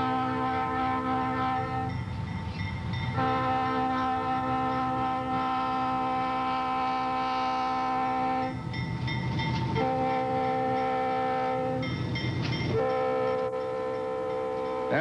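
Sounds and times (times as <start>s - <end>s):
locomotive air horn blasts: 0.0s - 2.1s, 3.1s - 8.7s, 9.7s - 12.0s, 12.7s - 15.0s
locomotive engine and wheels rumbling: 0.0s - 15.0s.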